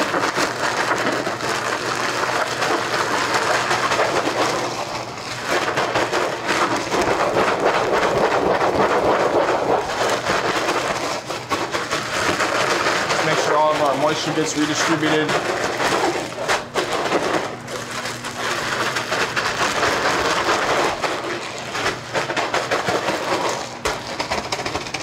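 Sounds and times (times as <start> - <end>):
grain rattling in plastic bag: 0.0 - 25.0.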